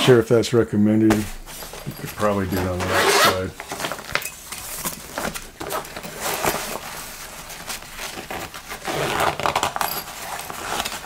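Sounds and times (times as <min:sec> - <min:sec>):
nylon fabric rustling and scraping: 0:01.1 - 0:11.0.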